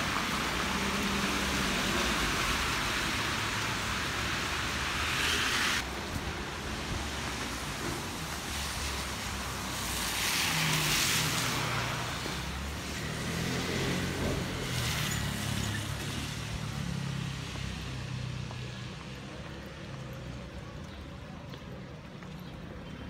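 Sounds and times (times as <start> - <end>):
tyres hissing on wet road: 0.0 - 21.3.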